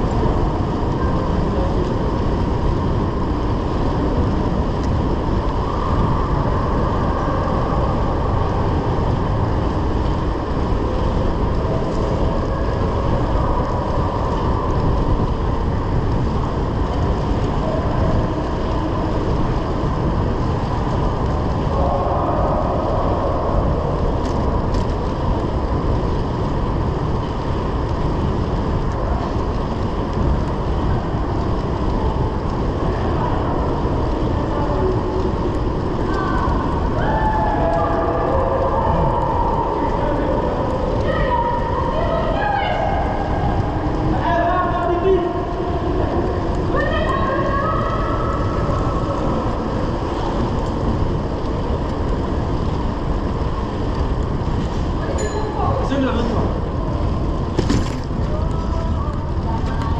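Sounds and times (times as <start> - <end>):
bike tyres rolling on tarmac: 0.0 - 59.9
wind rush over microphone: 0.0 - 59.9.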